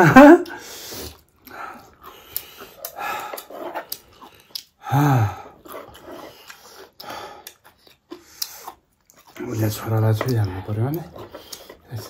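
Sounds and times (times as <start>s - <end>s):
chewing and mouth noises: 0.4s - 12.0s.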